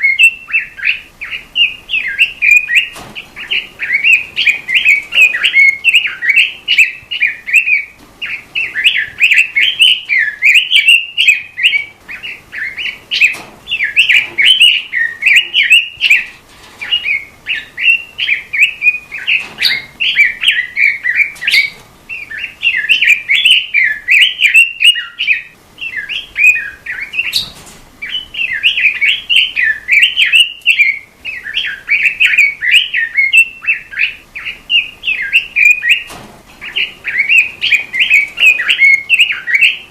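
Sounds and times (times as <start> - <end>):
robin singing chirping warbles: 0.0 - 39.9.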